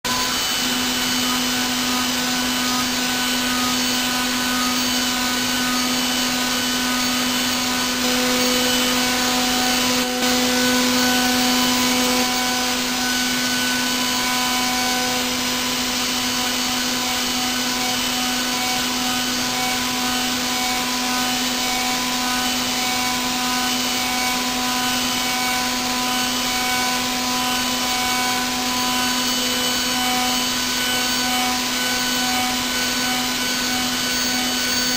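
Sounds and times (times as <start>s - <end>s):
milling machine whining hum: 0.1s - 34.9s.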